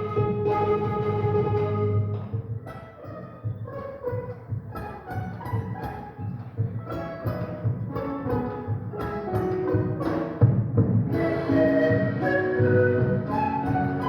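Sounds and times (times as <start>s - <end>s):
live folk ensemble playing: 0.0s - 14.0s.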